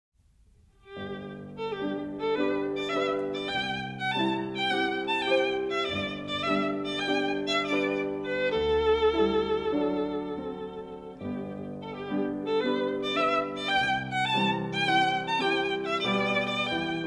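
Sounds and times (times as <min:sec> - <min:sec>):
violin melody with vibrato: 0:00.8 - 0:17.0.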